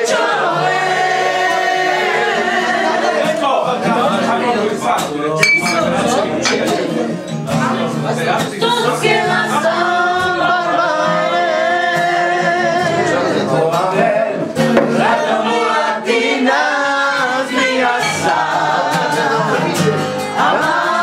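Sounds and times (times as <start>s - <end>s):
group of people singing: 0.0s - 21.0s
strummed acoustic guitar: 0.0s - 21.0s.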